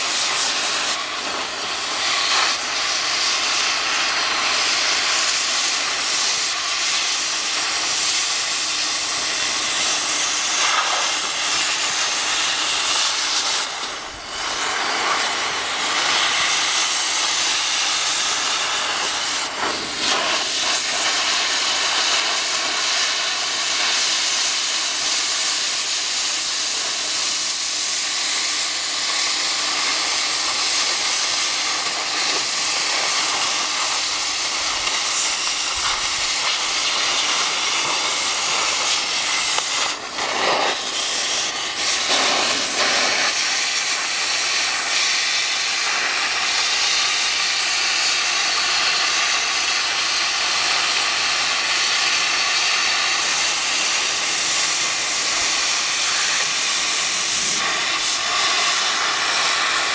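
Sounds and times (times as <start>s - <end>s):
cutting torch hissing through steel: 0.0s - 59.9s.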